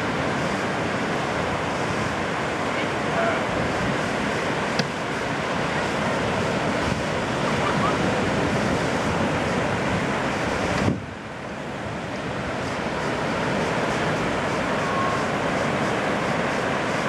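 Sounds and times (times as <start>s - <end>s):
ocean waves breaking: 0.0s - 17.0s
wind on microphone: 0.0s - 17.0s.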